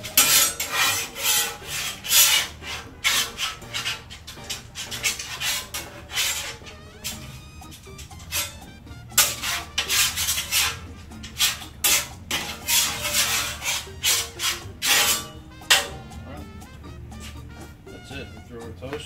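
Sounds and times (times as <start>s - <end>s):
utensil scraping metal griddle: 0.0s - 16.2s
faint music: 0.0s - 19.0s.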